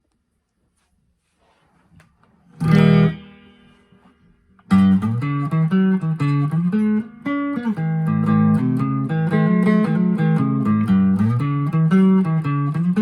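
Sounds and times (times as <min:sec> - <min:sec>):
electric guitar playing: 0:02.6 - 0:13.0.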